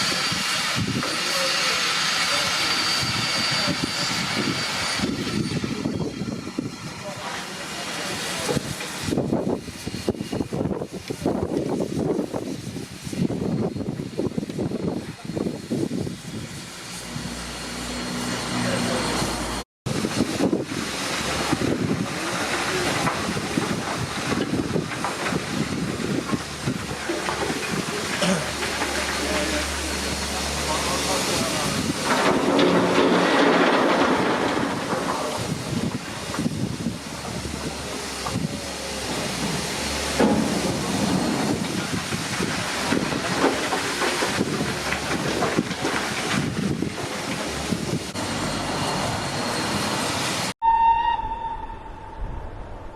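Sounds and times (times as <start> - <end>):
steam locomotive exhaust: 0.0 - 32.6, 33.6 - 52.9
rail noise: 0.0 - 52.9.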